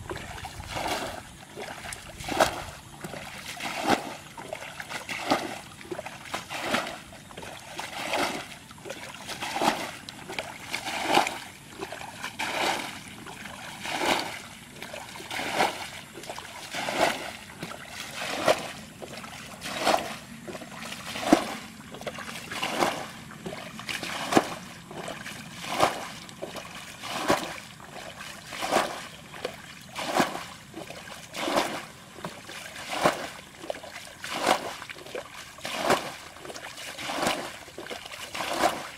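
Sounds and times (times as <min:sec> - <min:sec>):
water splashing: 0:00.0 - 0:38.9.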